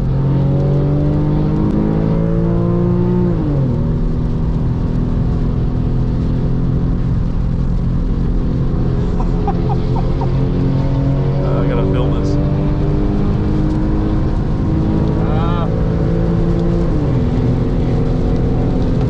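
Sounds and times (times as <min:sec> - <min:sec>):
car engine at speed: 0:00.0 - 0:19.0
road and spray rumble: 0:00.0 - 0:19.0.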